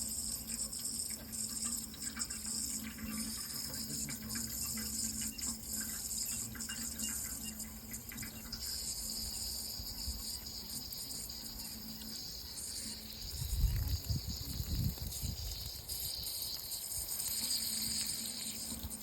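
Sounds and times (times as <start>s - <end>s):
crickets chirping: 0.0s - 19.0s
water trickling and splashing: 0.0s - 19.0s.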